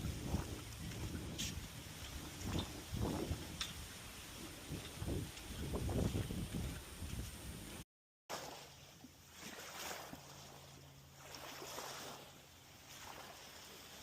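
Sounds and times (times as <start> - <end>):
faint moving water: 0.0 - 14.0.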